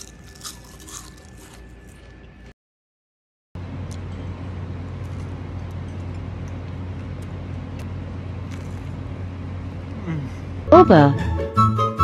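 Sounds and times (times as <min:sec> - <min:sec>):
low droning hum: 0:00.0 - 0:02.5, 0:03.6 - 0:11.2.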